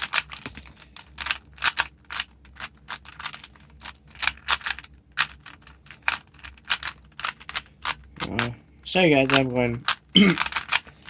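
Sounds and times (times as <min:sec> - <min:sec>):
puzzle cube layers clicking: 0:00.0 - 0:08.6, 0:09.2 - 0:10.9.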